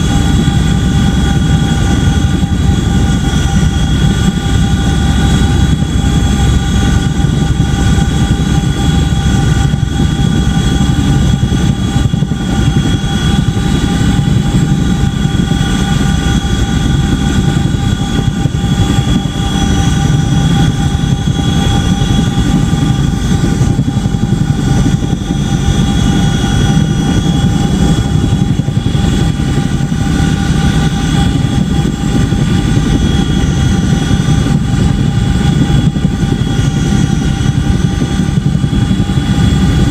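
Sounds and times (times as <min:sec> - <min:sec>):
helicopter rotor rumble: 0:00.0 - 0:39.9
high engine whine: 0:00.0 - 0:39.9.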